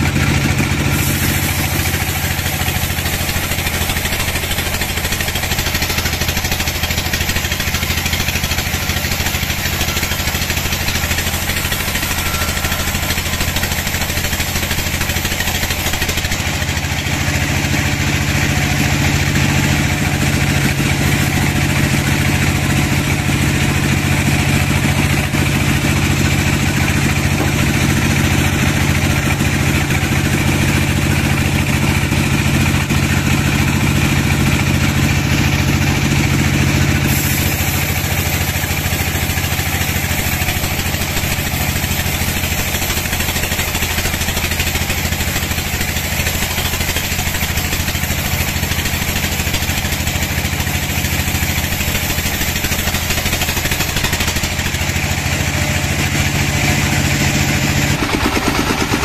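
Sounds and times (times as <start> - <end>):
engine hum: 0.0 - 59.0
sawmill mechanical clatter: 0.0 - 59.0.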